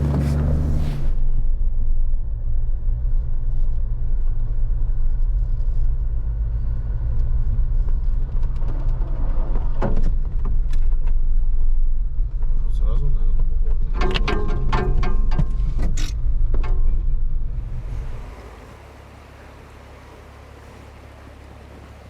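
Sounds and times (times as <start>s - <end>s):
off-road vehicle engine drone: 0.0s - 22.0s.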